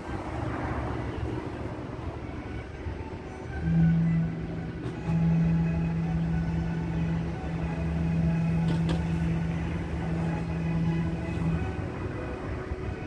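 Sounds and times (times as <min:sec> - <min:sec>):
low mechanical hum: 0:01.2 - 0:13.0
deep drone: 0:01.5 - 0:13.0.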